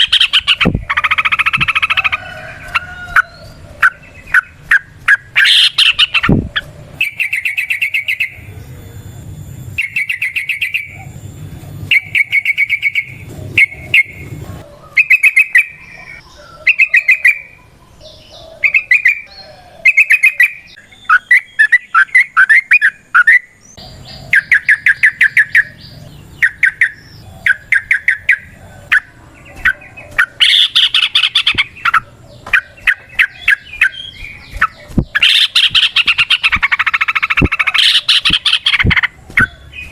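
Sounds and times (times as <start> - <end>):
bird singing fast chattering notes: 0.0 - 39.9.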